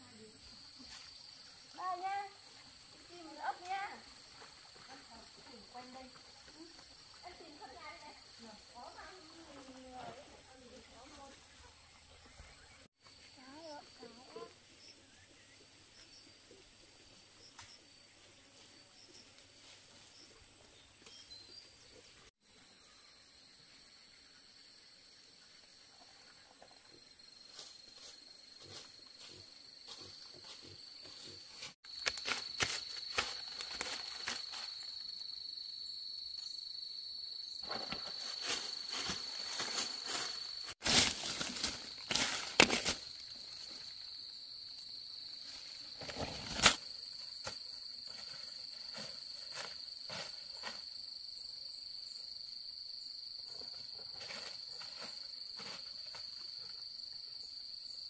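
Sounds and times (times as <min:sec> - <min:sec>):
insects trilling: 0:00.0 - 0:21.6, 0:22.4 - 0:58.0.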